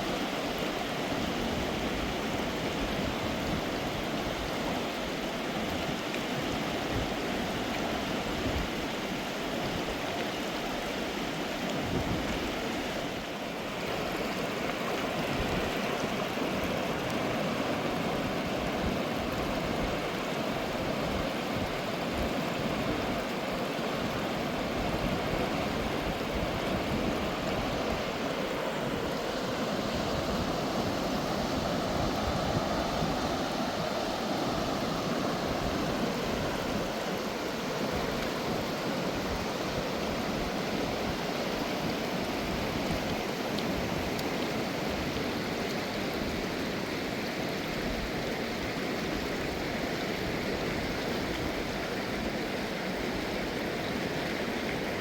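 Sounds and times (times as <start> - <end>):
river water running over rocks: 0.0 - 55.0.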